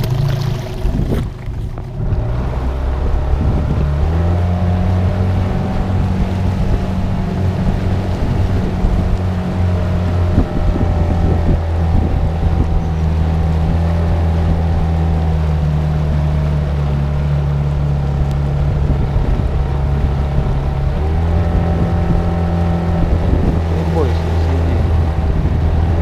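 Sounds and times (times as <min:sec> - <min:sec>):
outboard motor running: 0:00.0 - 0:26.0
wind buffeting microphone: 0:00.0 - 0:26.0.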